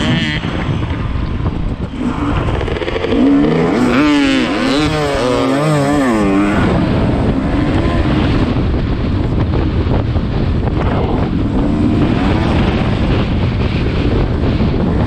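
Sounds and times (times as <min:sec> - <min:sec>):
dirt bike engine revving: 0:00.0 - 0:01.1, 0:01.8 - 0:08.9, 0:10.8 - 0:15.0.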